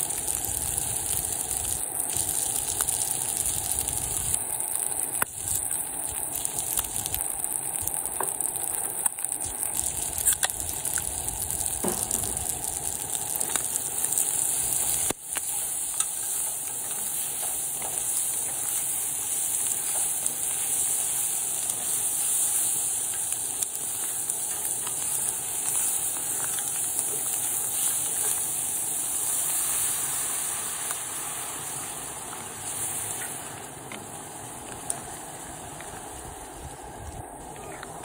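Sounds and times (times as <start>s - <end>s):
food sizzling in oil: 0.0s - 36.8s.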